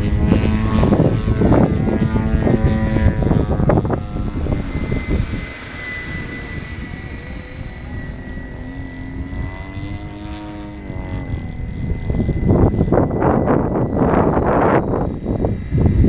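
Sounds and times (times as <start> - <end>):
model helicopter motor whine: 0.0 - 16.0
wind buffeting microphone: 0.0 - 16.0.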